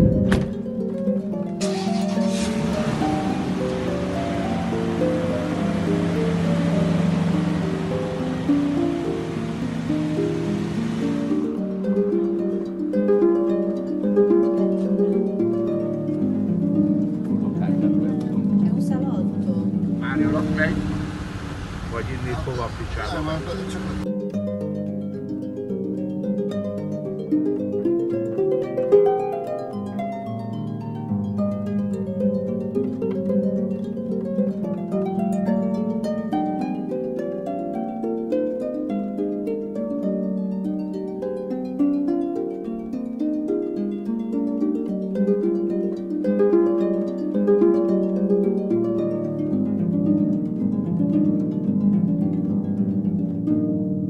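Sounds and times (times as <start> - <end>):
plucked-string instrumental music: 0.0 - 54.0.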